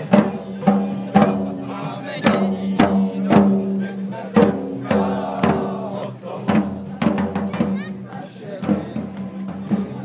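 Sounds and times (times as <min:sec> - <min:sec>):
marching field drums: 0:00.0 - 0:10.0.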